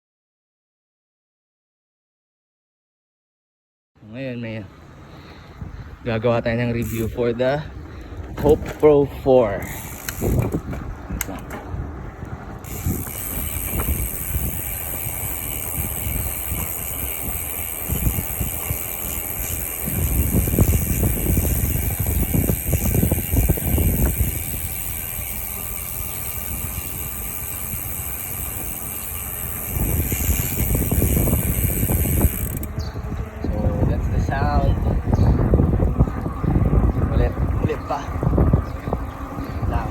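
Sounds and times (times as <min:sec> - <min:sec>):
bicycle freehub buzzing: 0:04.4 - 0:39.9.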